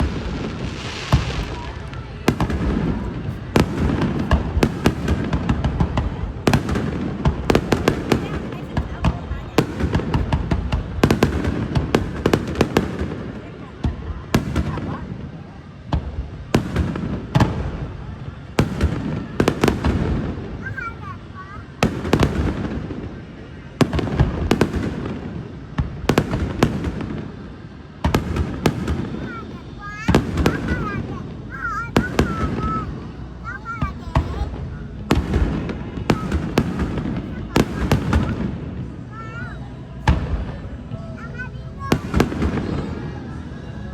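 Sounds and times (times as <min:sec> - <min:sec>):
firework bursts banging: 0:00.0 - 0:43.5
firework crackles: 0:00.0 - 0:43.6.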